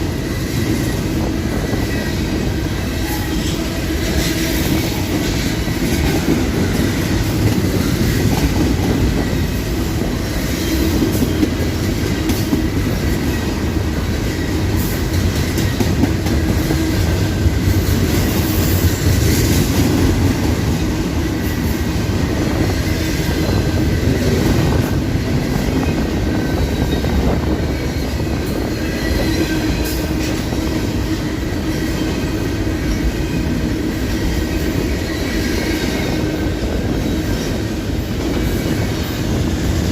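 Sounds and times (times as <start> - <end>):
railcar wheels rumbling on rail: 0.0 - 39.9.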